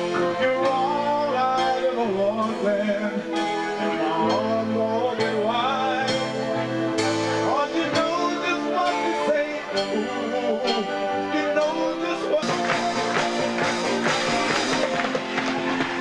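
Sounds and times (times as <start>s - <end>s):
dance band playing: 0.0s - 16.0s
person singing: 0.0s - 16.0s.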